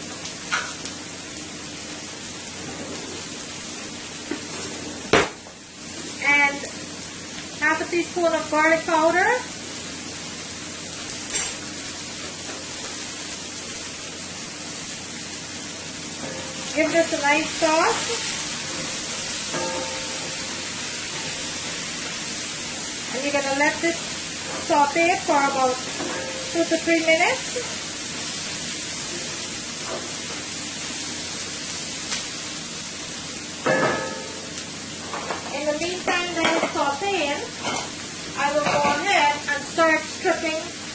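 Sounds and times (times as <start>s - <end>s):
vegetables sizzling in a skillet: 0.0s - 40.9s.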